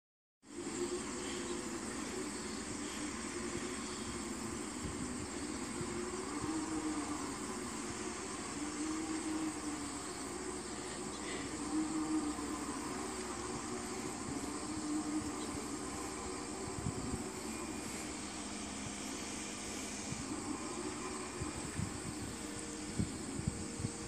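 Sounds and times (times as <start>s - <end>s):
distant engine running: 0.5s - 24.0s
insects chirring: 0.5s - 24.0s.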